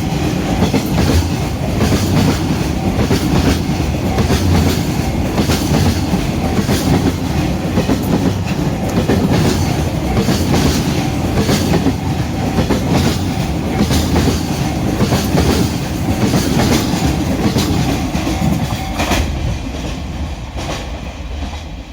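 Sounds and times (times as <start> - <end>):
train wheels clattering over rail joints: 0.0 - 21.9.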